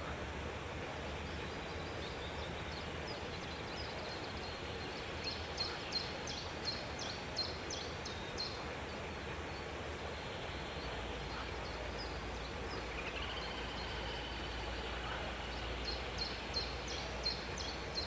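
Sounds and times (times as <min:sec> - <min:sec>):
background hiss and low hum: 0:00.0 - 0:18.0.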